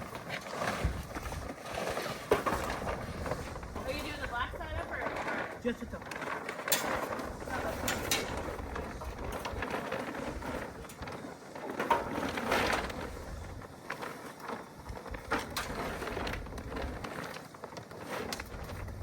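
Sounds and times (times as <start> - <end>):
plastic tarp rustling: 0.0 - 19.0.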